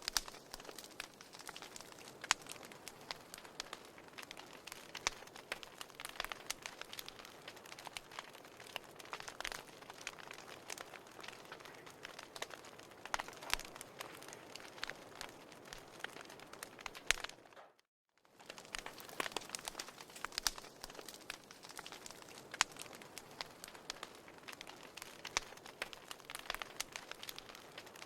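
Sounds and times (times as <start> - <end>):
fire popping and snapping: 0.0 - 28.0
soft steady fire hiss: 0.0 - 28.0.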